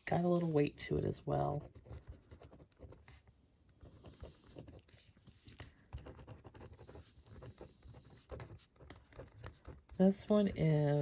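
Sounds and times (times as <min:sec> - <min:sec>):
pen scratching on paper: 0:00.0 - 0:11.0.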